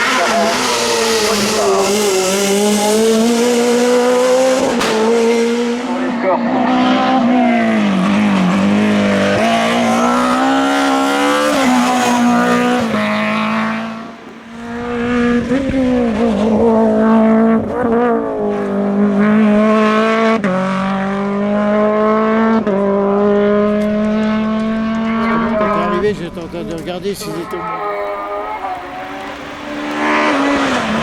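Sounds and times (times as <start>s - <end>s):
race car engine revving: 0.0s - 31.0s.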